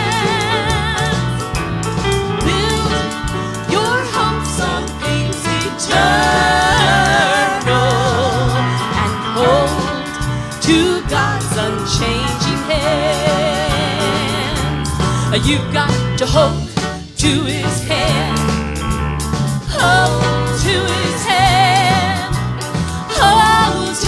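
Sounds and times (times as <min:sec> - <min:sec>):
live gospel band instrumental: 0:00.0 - 0:24.0.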